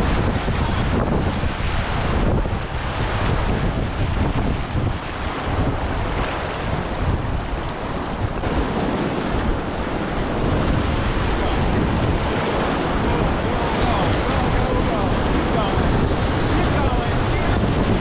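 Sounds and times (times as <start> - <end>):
river rapids roaring: 0.0 - 18.0
wind buffeting microphone: 0.0 - 18.0.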